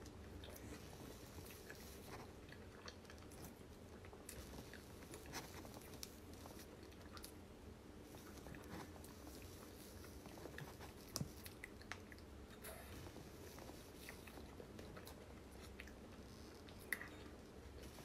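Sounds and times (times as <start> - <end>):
person chewing cake: 0.0 - 18.0.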